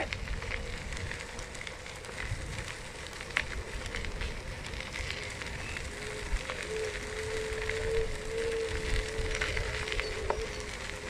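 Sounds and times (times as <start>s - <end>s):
scooter wheels rolling on gravel: 0.0s - 11.0s.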